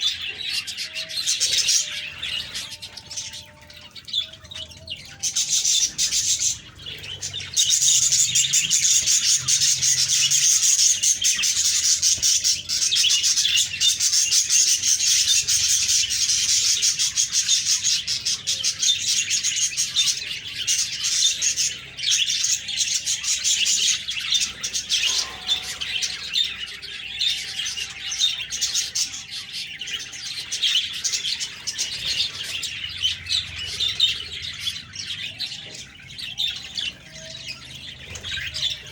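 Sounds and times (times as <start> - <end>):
parakeets chirping and warbling: 0.0 - 38.9.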